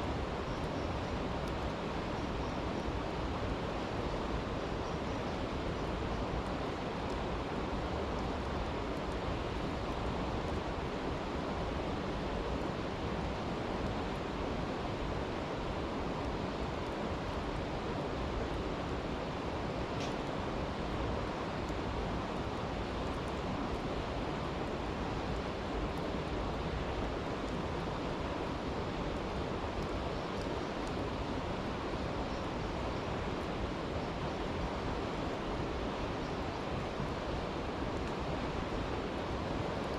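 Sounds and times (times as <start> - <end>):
campfire crackles: 0.0 - 39.9
stream rushing: 5.4 - 39.9.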